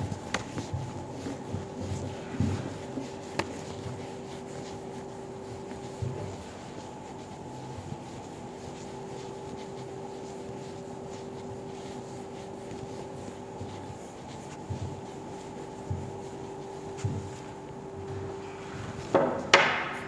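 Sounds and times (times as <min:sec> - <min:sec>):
eraser rubbing on whiteboard: 0:00.0 - 0:17.8
steady low hum: 0:00.0 - 0:20.0.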